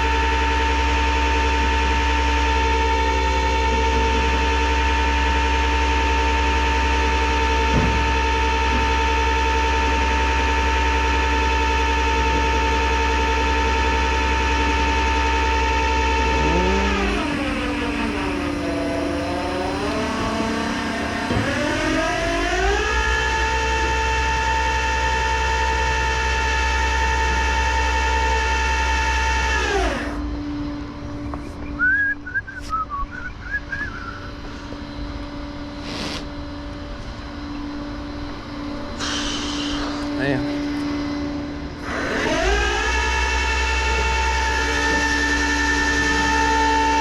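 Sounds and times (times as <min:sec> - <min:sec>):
truck engine whine: 0:00.0 - 0:47.0.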